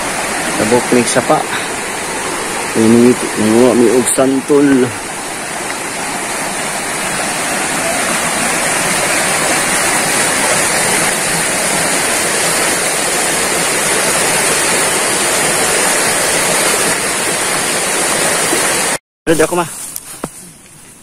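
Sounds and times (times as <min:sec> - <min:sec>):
creek rushing over stones: 0:00.0 - 0:19.0.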